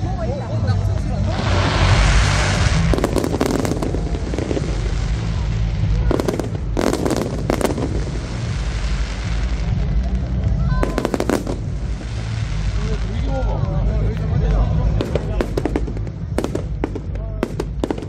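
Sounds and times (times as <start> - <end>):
steady low rumble: 0.0 - 18.0
fireworks crackling bangs: 0.6 - 18.0.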